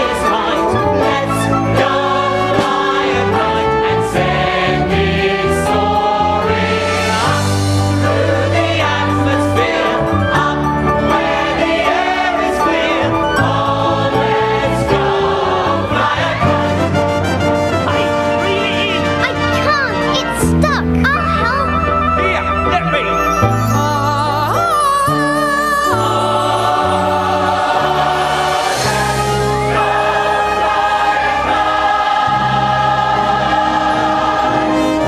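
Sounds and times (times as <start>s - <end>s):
choir singing: 0.0s - 19.6s, 23.2s - 35.0s
instrumental accompaniment: 0.0s - 35.0s.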